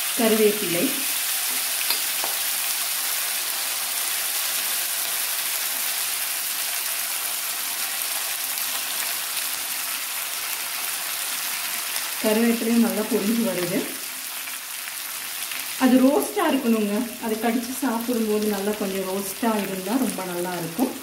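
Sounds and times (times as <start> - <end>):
leaves frying in hot oil: 0.0 - 21.0.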